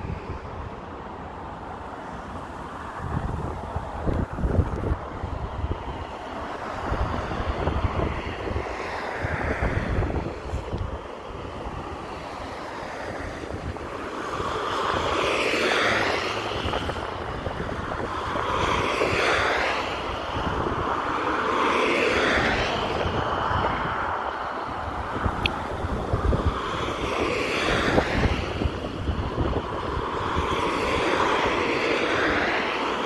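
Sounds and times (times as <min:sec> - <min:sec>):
jet airliner engine rush: 0:00.0 - 0:33.0
wind buffeting microphone: 0:00.0 - 0:33.0.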